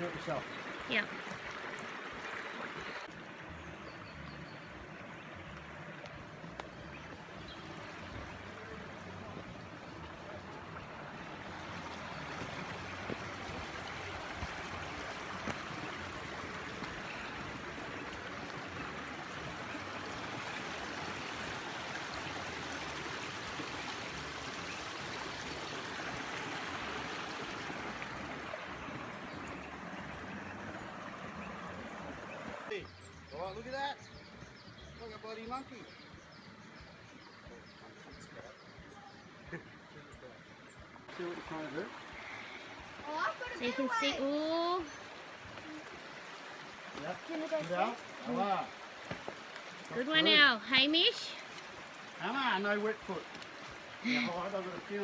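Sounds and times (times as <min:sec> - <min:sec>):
creek running over rocks: 0:00.0 - 0:55.0.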